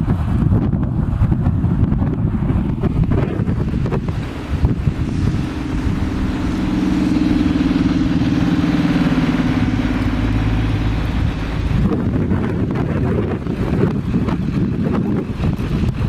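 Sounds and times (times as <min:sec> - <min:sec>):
bus engine droning: 0:00.0 - 0:16.0
wind buffeting microphone: 0:00.0 - 0:16.0.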